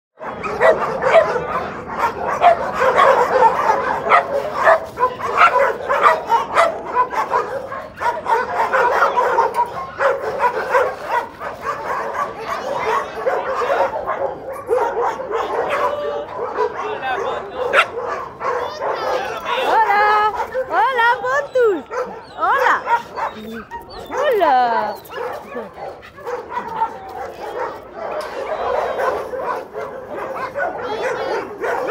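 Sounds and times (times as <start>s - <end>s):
puppies yipping and barking: 0.2s - 31.9s.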